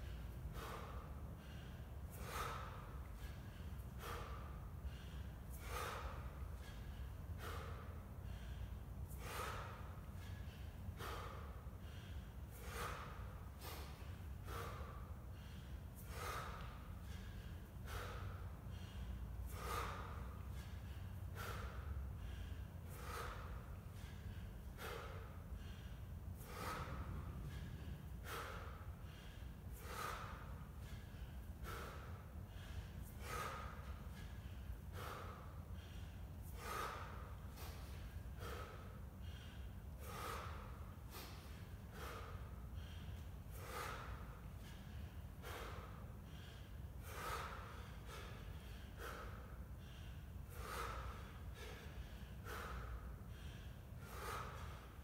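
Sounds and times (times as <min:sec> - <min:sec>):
man breathing hard in snorts: 0:00.0 - 0:55.0.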